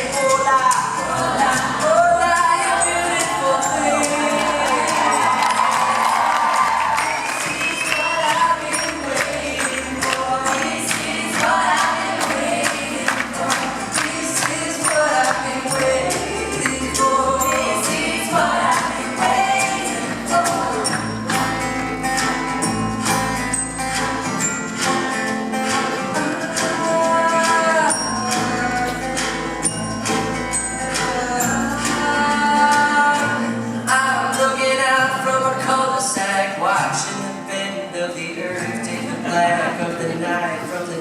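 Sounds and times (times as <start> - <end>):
wordless singing voices: 0.0 - 22.4, 30.5 - 41.0
percussion beat: 0.0 - 34.6
live band playing: 0.0 - 41.0.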